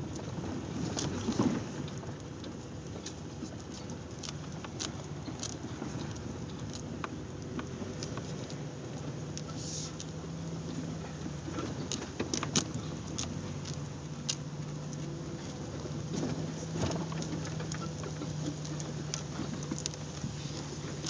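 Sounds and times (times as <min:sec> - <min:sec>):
vehicle engine running low: 0:00.0 - 0:21.0.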